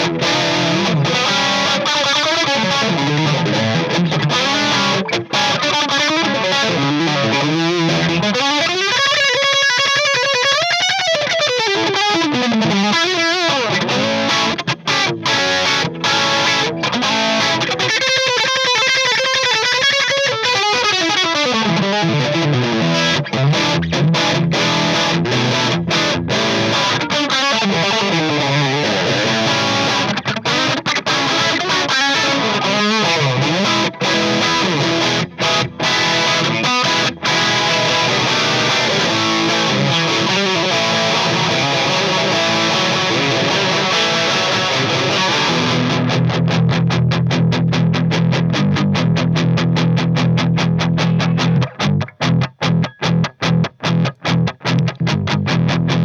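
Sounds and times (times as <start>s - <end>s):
electric guitar with delay and chorus: 0.0s - 56.0s.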